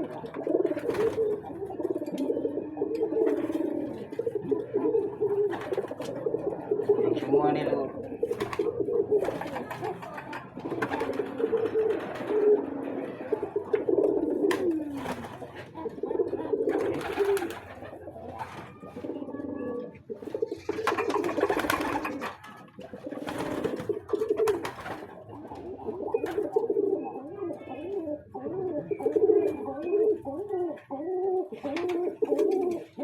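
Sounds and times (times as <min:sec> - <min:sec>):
pigeons cooing: 0:00.0 - 0:33.0.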